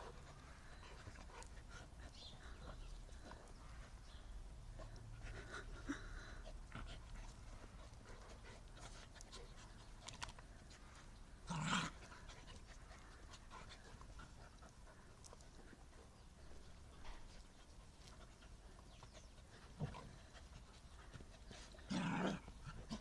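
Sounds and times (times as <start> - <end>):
dogs scuffling and panting: 0.0 - 5.9, 6.5 - 23.0.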